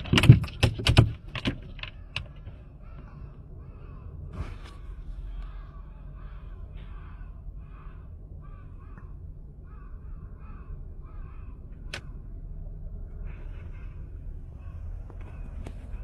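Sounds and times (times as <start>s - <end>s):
steady low rumble: 1.1s - 16.0s.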